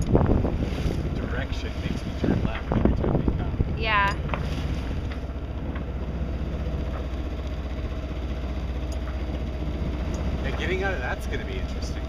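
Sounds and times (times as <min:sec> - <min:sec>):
boat engine running: 0:00.0 - 0:12.0
choppy water: 0:00.0 - 0:12.0
wind: 0:00.0 - 0:12.0.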